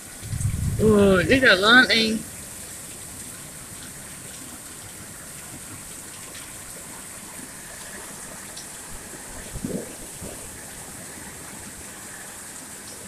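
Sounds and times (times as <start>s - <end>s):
heavy rain on a tin roof: 0.0s - 13.0s.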